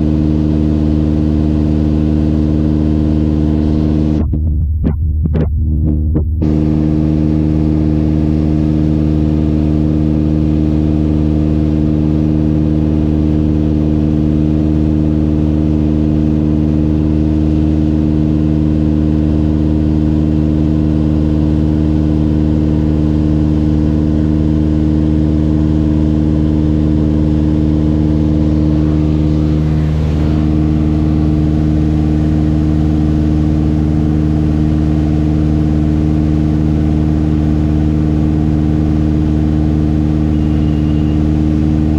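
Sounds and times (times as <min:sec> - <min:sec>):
propeller plane engine droning: 0:00.0 - 0:41.9.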